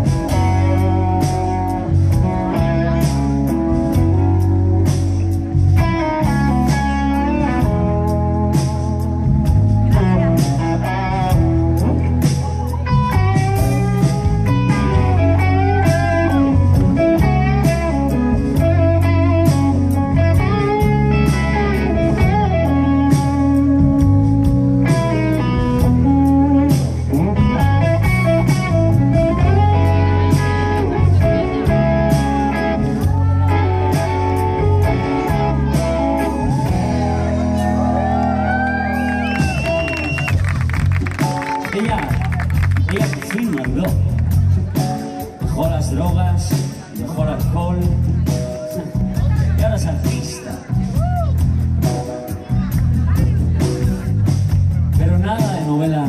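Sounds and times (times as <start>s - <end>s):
electric guitar lead: 0.0s - 56.0s
rock band playing: 0.0s - 56.0s.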